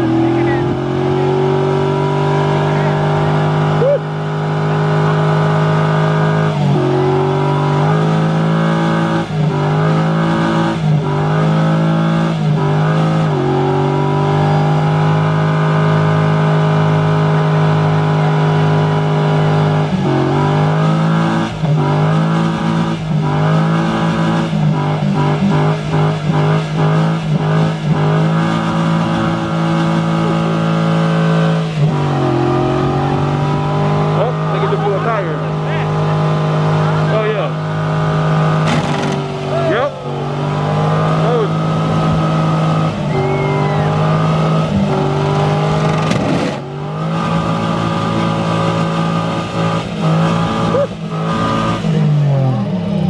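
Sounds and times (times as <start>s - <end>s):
truck engine revving high: 0.0s - 53.0s.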